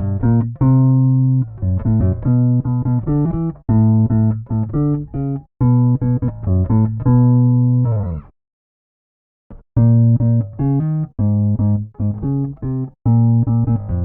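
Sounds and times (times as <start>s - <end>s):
electric bass riff: 0.0s - 8.3s, 9.5s - 14.0s.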